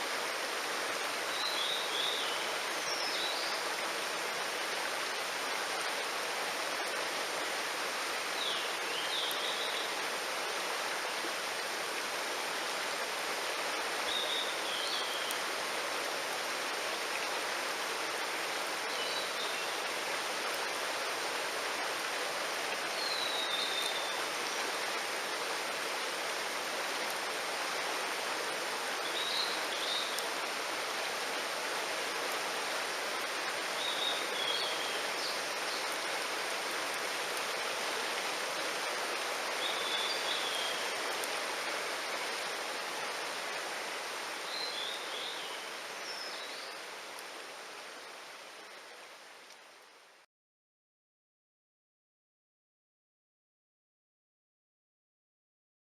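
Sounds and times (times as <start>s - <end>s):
mountain stream rushing: 0.0s - 50.2s.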